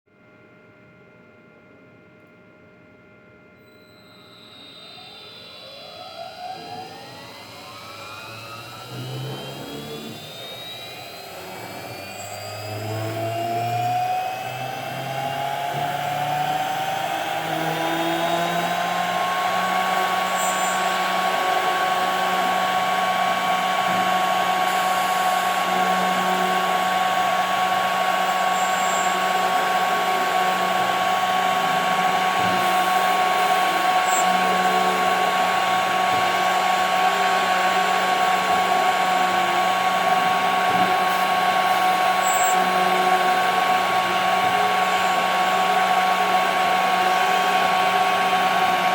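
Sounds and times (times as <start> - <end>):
cnc spindle whine: 0.2 - 48.9.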